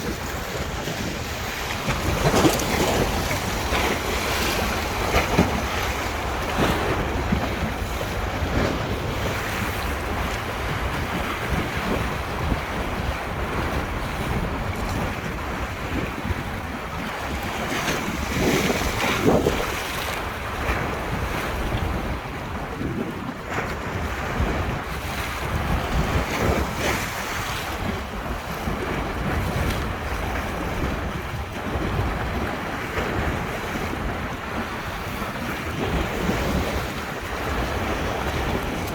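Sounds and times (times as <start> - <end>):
waves splashing against bank: 0.0 - 38.9
wind rumble on microphone: 0.0 - 38.9.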